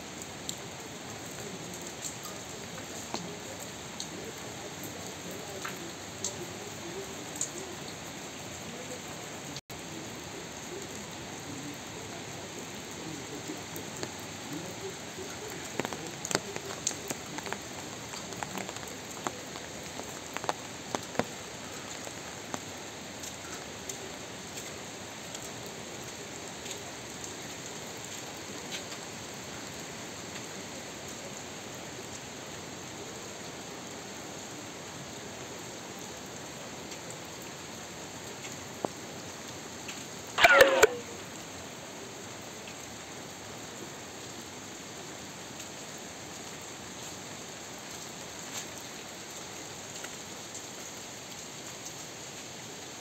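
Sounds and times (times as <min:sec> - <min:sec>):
louder raindrops: 0:00.0 - 0:53.0
steady rain falling: 0:00.0 - 0:53.0.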